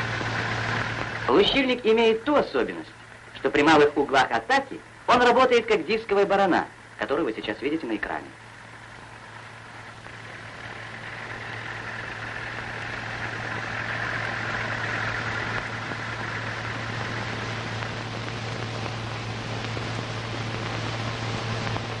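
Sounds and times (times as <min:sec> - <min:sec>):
tractor engine: 0:00.0 - 0:05.1, 0:08.0 - 0:22.0.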